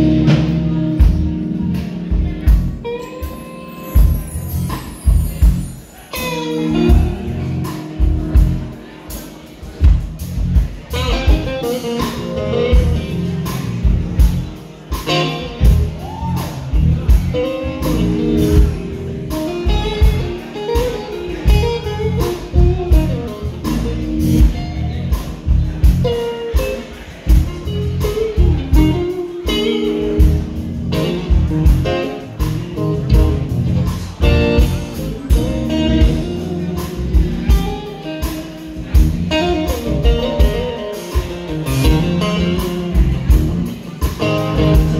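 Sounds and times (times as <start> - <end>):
drums with steady beat: 0.0 - 44.9
electric guitar: 0.0 - 44.9
live blues band: 0.0 - 44.9.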